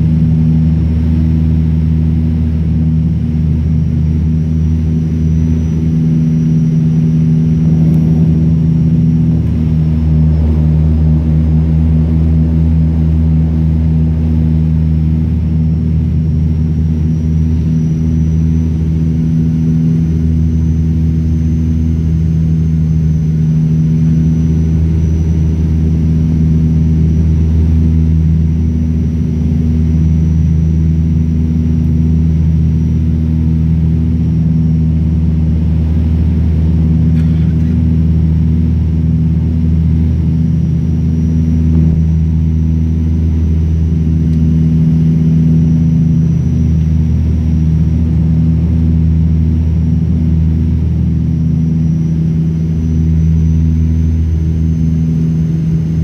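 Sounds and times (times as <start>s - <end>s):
faint high whine: 0.0s - 56.0s
turboprop engine drone in cabin: 0.0s - 56.0s.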